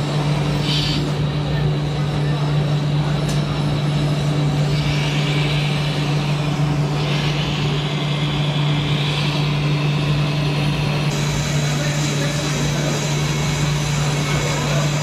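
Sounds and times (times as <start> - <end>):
high hissing whine: 0.0 - 15.0.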